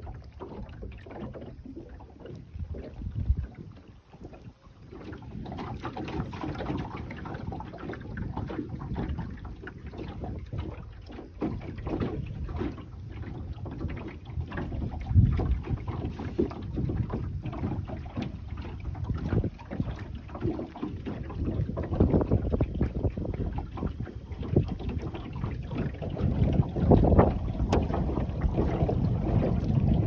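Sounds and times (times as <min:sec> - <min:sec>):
water lapping along hull: 0:00.0 - 0:30.0
wind buffeting microphone: 0:00.0 - 0:30.0.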